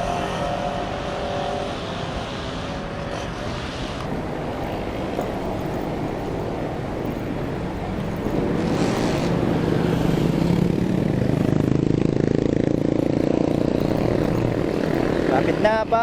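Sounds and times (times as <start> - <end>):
road and wind noise: 0.0 - 16.0
vehicle engine droning: 0.0 - 16.0.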